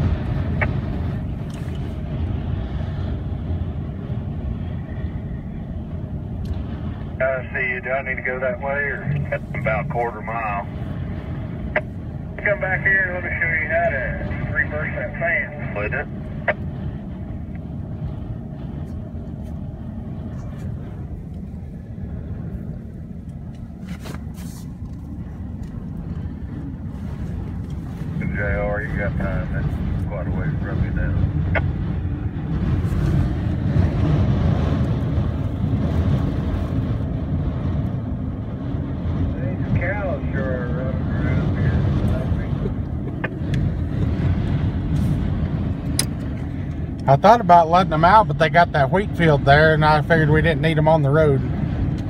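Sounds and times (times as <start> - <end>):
gusting wind buffeting vehicle: 0.0 - 52.0
truck engine rumble: 0.0 - 52.0.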